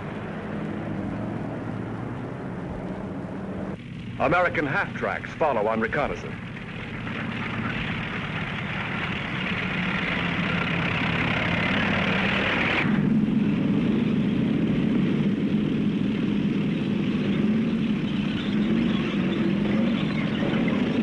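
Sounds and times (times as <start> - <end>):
deep engine drone: 0.0 - 21.0
military vehicle engines running: 0.0 - 21.0.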